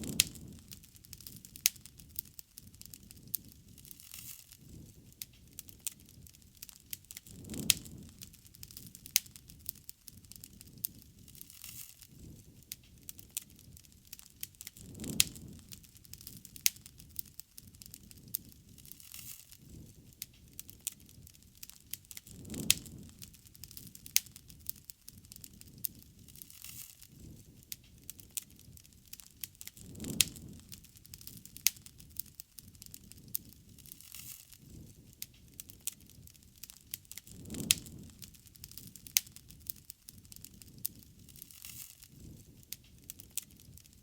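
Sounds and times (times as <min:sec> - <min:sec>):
wood bonfire crackling: 0:00.0 - 0:44.0.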